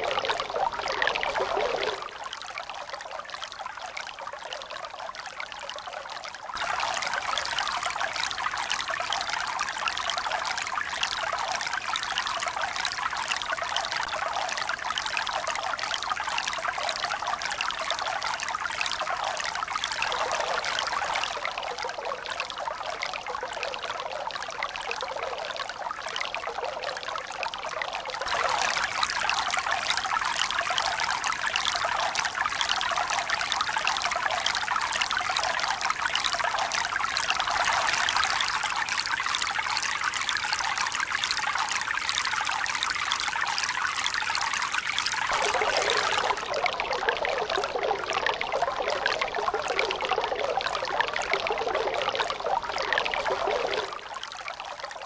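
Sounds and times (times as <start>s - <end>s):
running trickling water: 0.0s - 27.0s, 27.6s - 55.0s.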